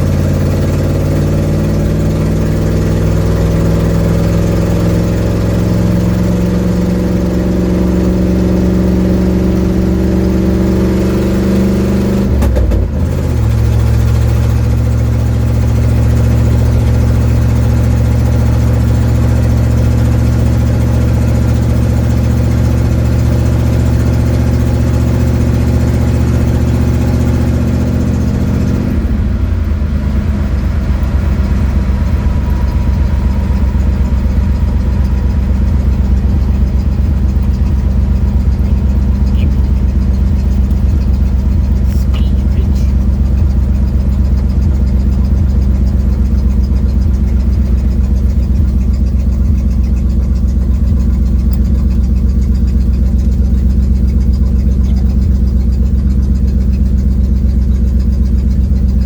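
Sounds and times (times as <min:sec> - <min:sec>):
car engine with exhaust leak: 0:00.0 - 0:59.0.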